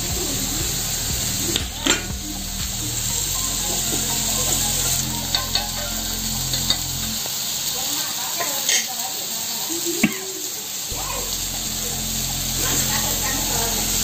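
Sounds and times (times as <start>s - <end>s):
pineapple slices sizzling in pan: 0.0s - 14.0s.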